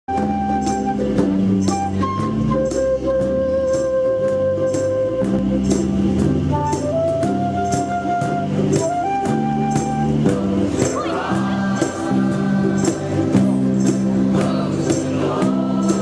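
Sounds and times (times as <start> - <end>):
ukulele chords strummed: 0.1 - 16.0
walking bass line: 0.1 - 16.0.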